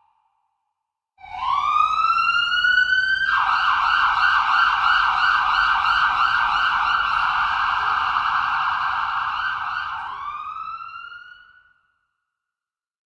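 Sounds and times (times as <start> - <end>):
emergency siren wailing and yelping: 1.2 - 11.7.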